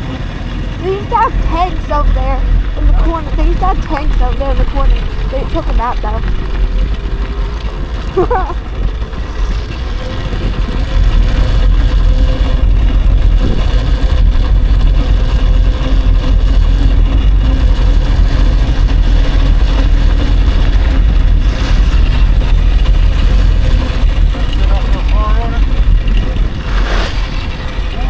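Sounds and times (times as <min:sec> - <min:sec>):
tyre and ride noise: 0:00.0 - 0:28.0
wind buffeting microphone: 0:00.0 - 0:28.0.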